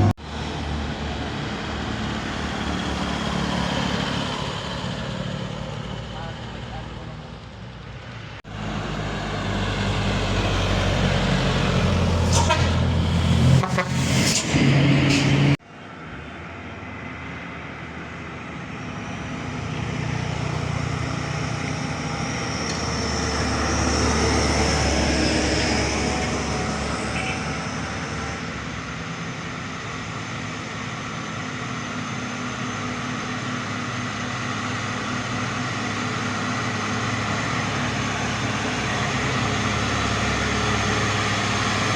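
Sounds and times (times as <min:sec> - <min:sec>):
traffic noise: 0:00.0 - 0:41.9
truck engines running: 0:00.0 - 0:41.9.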